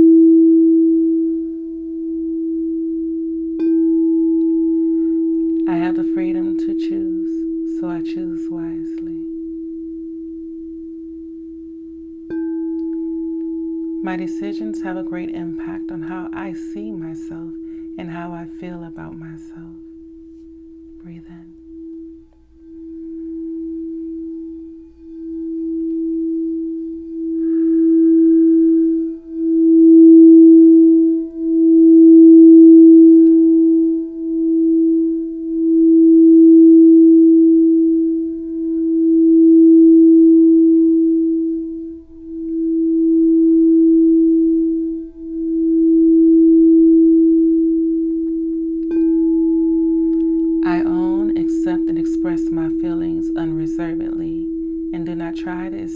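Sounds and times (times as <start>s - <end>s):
singing bowl tone: 0.0s - 55.9s.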